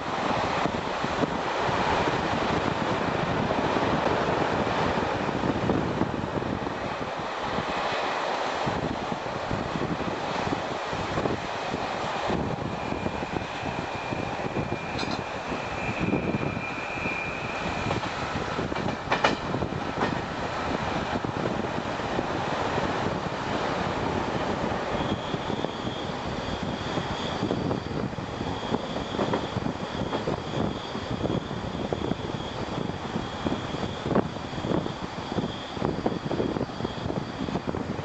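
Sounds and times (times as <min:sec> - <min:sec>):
train wheels rumbling on rails: 0:00.0 - 0:38.0
wind noise: 0:00.0 - 0:38.0.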